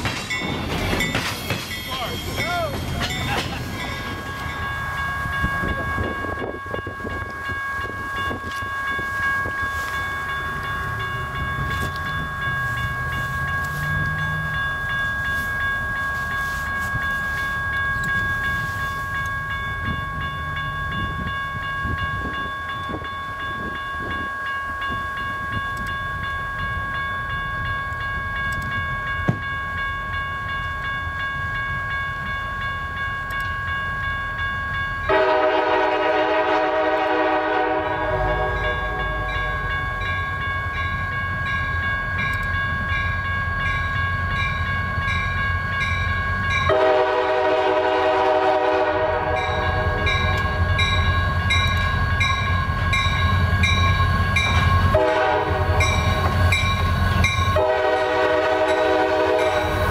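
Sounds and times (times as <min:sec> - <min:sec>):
diesel train engine rumble: 0:00.0 - 0:59.9.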